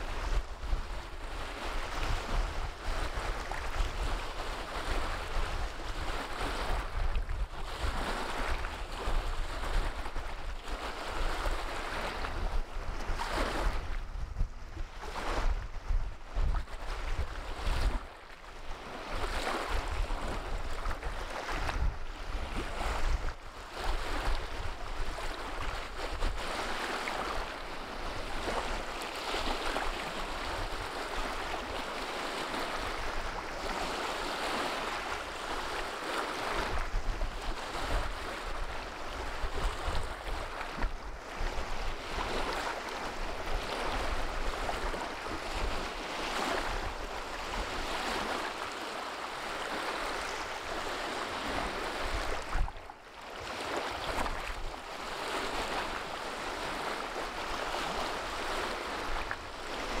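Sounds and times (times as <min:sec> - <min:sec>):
wind rumble on microphone: 0:00.0 - 1:00.0.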